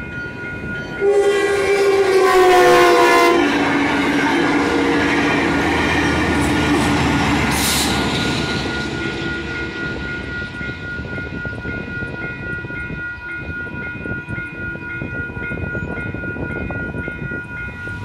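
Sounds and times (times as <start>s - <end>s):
railroad crossing bells ringing: 0.0s - 18.0s
train rumble: 0.0s - 18.0s.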